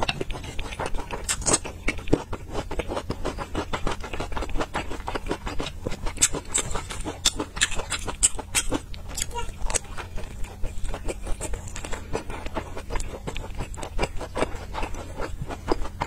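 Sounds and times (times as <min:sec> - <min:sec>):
wet chewing clicks and smacks: 0:00.0 - 0:16.0.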